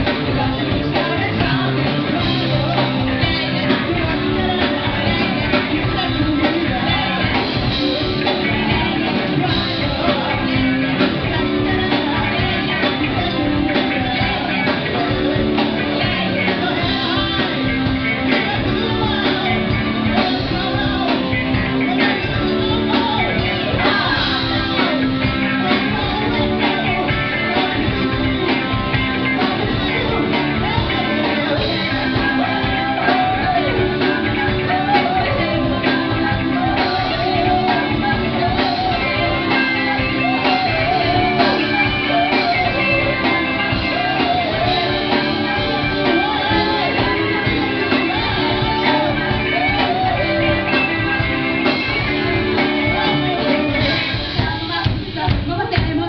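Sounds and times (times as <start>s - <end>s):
live band playing: 0.0s - 56.0s
people singing: 0.0s - 56.0s.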